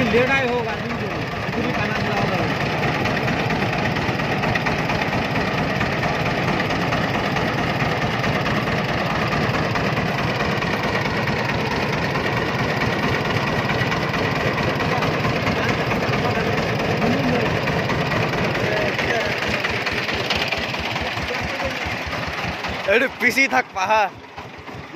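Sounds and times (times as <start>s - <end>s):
three-wheeler engine chugging: 0.0s - 24.9s.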